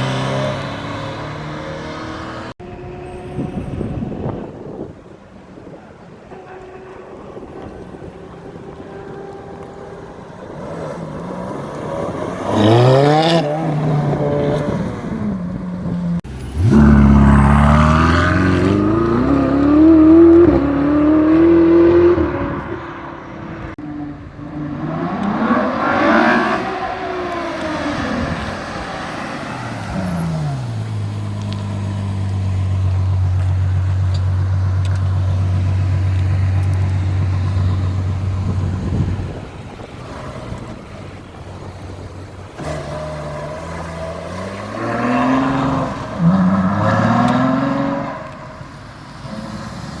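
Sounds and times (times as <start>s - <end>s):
sports car engines revving: 0.0s - 2.6s, 8.9s - 50.0s.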